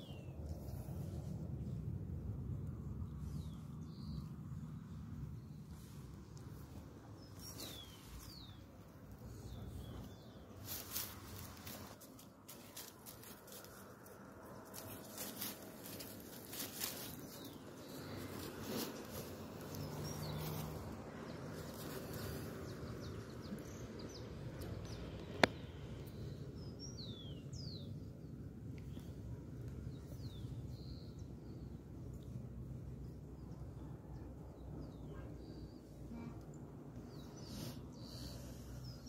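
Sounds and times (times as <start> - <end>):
low background noise: 0.0 - 39.0
small birds chirping: 2.7 - 39.0.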